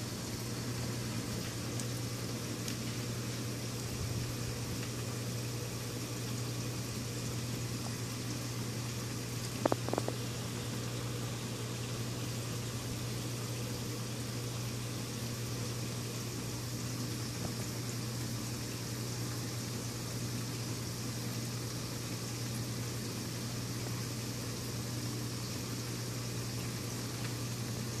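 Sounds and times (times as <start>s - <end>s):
steady low hum: 0.0s - 28.0s
trickling bubbling water: 0.0s - 28.0s.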